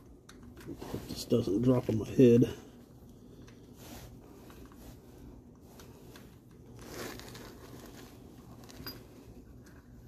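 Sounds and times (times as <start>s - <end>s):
soft scraping and rustling: 0.6s - 10.0s.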